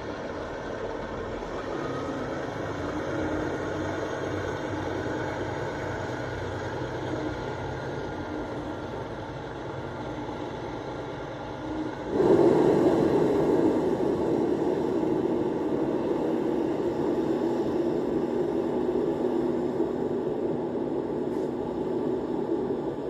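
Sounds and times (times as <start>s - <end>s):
loud steady rushing noise: 0.0s - 23.0s.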